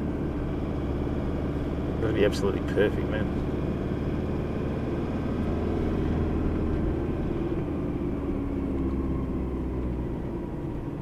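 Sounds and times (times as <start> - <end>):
vehicle driving on a track: 0.0 - 11.0.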